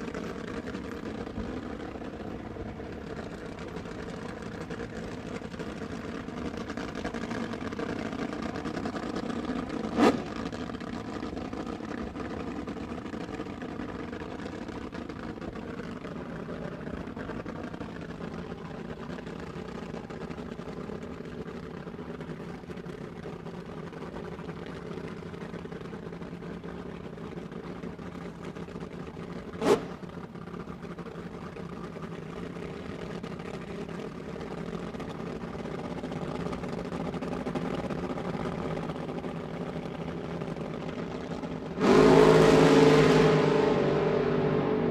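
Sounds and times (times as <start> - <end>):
sports car engine running: 0.0 - 44.9.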